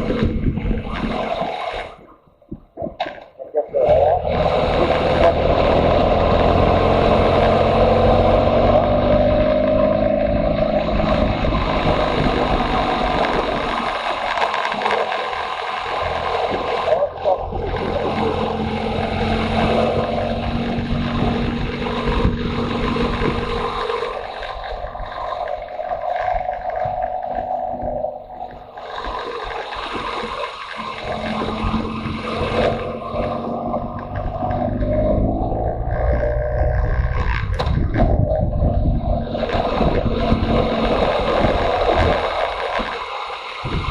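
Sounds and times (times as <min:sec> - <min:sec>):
wind noise on microphone: 0:00.0 - 0:03.2, 0:03.9 - 0:43.9
motorcycle engine running: 0:04.0 - 0:43.0.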